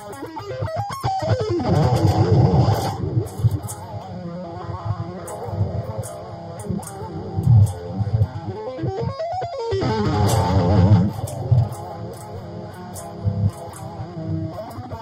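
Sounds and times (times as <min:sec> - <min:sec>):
electric guitar shredding: 0:00.0 - 0:15.0.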